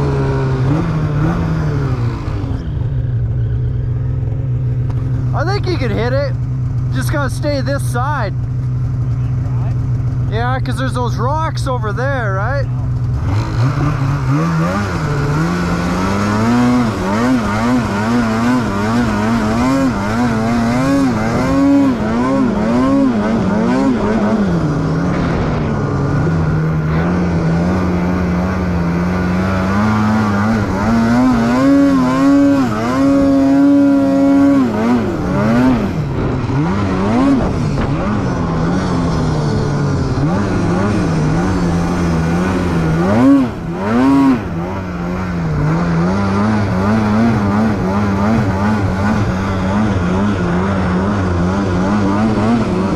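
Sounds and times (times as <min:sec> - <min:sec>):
snowmobile engine revving: 0:00.0 - 0:52.9.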